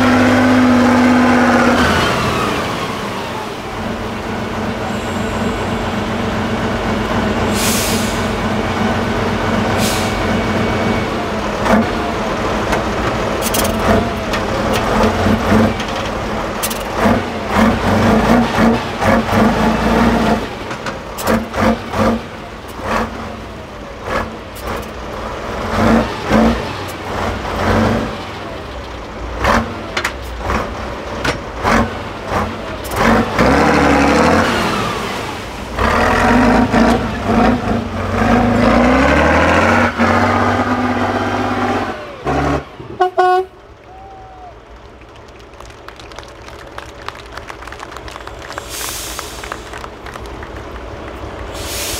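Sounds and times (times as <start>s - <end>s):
diesel truck engine under load: 0.0s - 51.9s.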